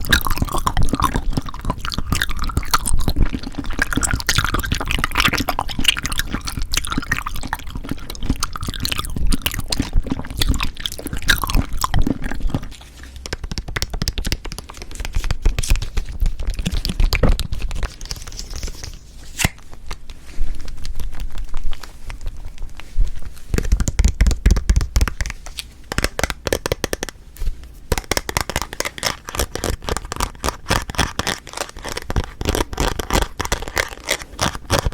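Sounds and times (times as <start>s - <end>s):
chewing jelly with mouth clicks: 0.0s - 27.2s, 27.9s - 34.9s.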